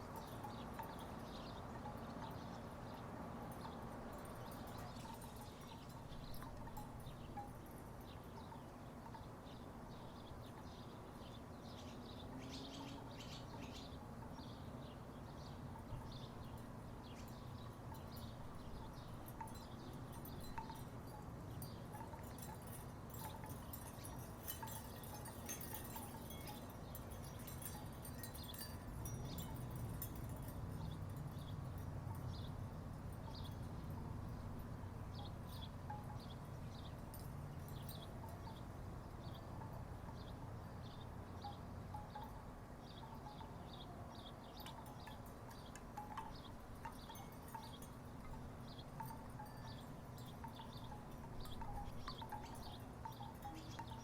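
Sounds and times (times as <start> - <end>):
wooden wind chimes clacking: 0.0 - 9.4, 15.6 - 54.0.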